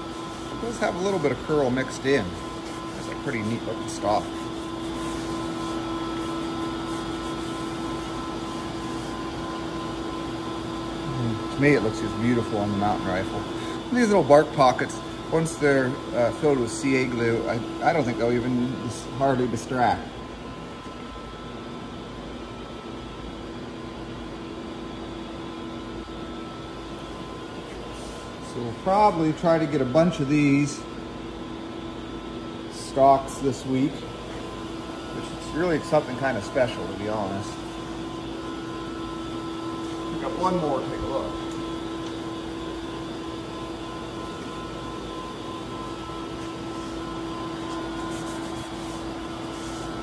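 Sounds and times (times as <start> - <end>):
machine hum with hiss: 0.0 - 50.0.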